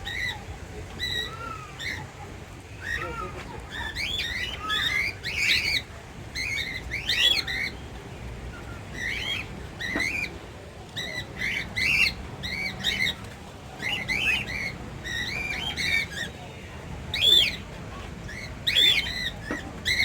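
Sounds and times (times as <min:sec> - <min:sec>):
birds squawking and chirping: 0:00.0 - 0:20.0.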